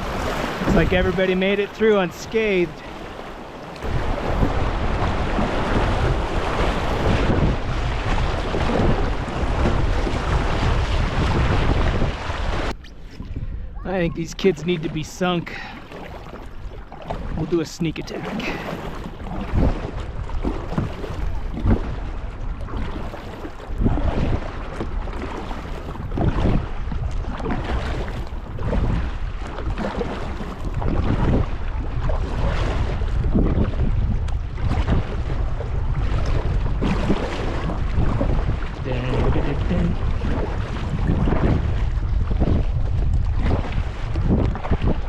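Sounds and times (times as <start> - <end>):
paddle strokes splashing water: 0.0 - 45.0
wind buffeting microphone: 0.0 - 45.0.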